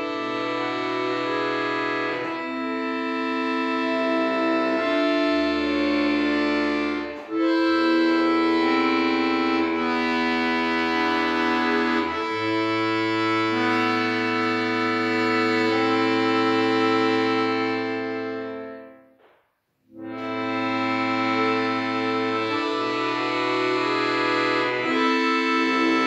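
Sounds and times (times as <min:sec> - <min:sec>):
accordion playing held chords: 0:00.0 - 0:19.2, 0:19.8 - 0:26.0.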